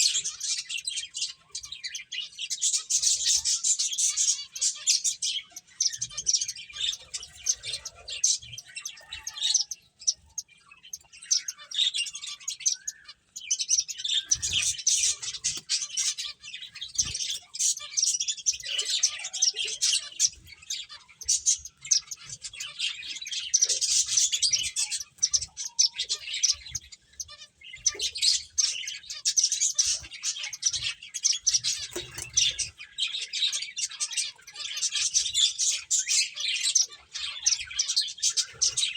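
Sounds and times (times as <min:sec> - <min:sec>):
finches chirping: 0:00.0 - 0:38.9.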